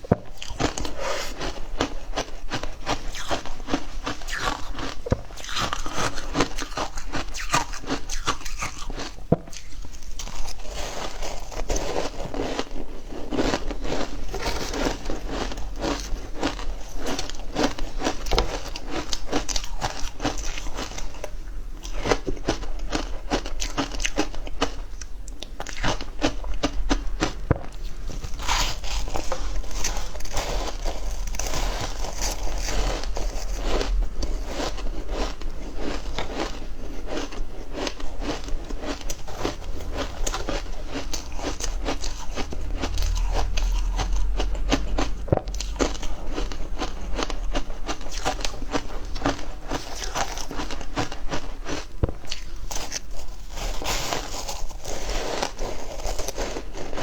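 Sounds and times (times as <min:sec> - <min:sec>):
person chewing crunchy ice: 0:00.0 - 0:57.0.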